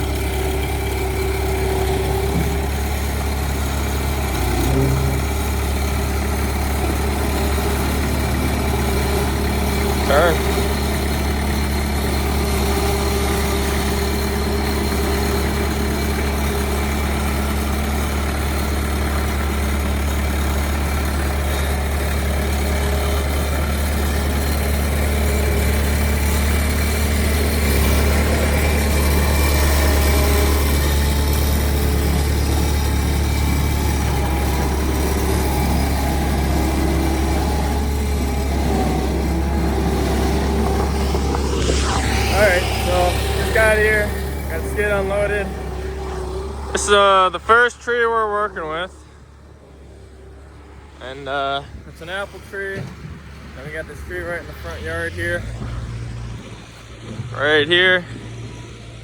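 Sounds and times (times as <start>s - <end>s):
engine deep low hum: 0.0s - 59.0s.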